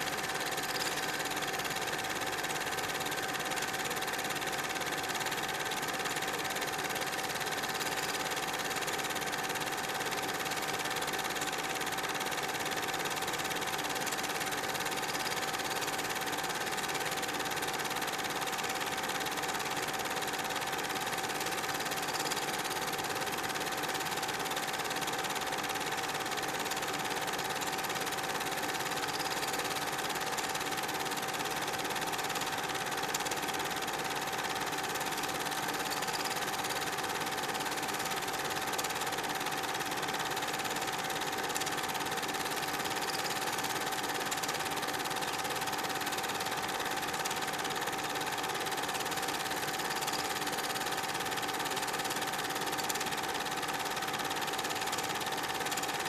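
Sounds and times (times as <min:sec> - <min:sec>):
film projector whirring: 0:00.0 - 0:56.0.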